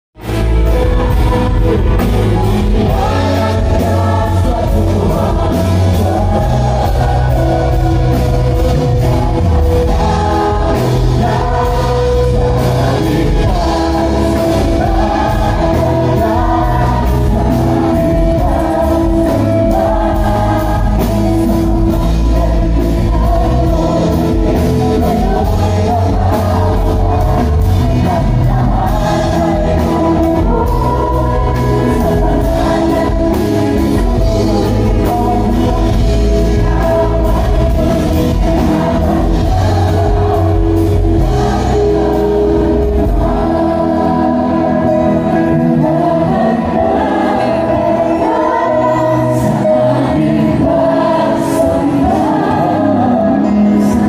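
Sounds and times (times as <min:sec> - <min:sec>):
band with heavy bass: 0:00.2 - 0:54.0
singers holding long notes: 0:00.2 - 0:54.0.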